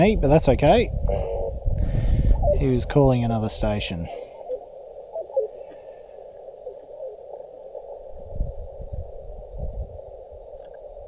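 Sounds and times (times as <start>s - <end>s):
radio band noise hissing: 0.0s - 11.0s
faint morse tones: 0.4s - 10.6s.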